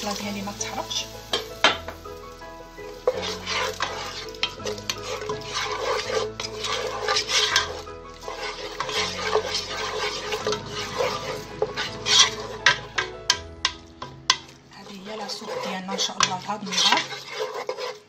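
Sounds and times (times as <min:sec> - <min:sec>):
onion sizzling in oil: 0:00.0 - 0:18.0
wooden spoon scraping pot: 0:02.9 - 0:18.0.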